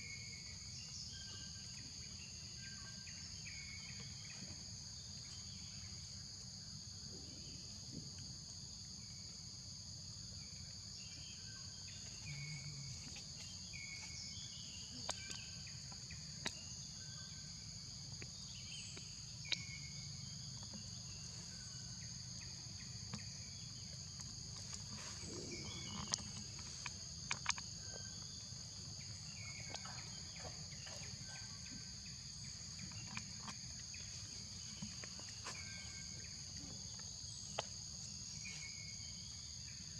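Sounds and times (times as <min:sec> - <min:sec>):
high-pitched insect chorus: 0:00.0 - 0:39.9
insect chirps: 0:00.0 - 0:39.9.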